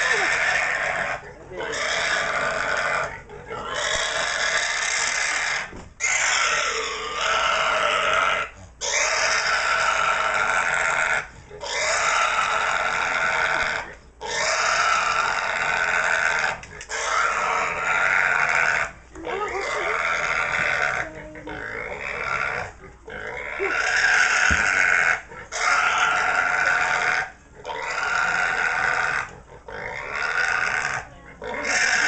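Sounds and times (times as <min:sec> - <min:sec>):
pig screaming: 0:00.0 - 0:32.0.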